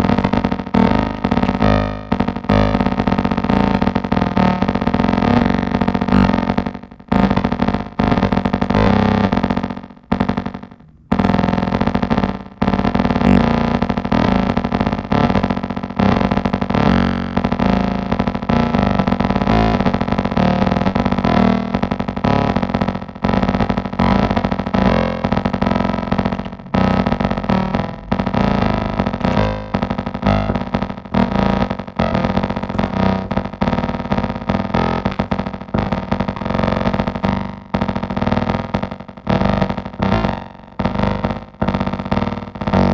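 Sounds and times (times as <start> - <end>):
noisy synth bass loop: 0.0 - 42.9.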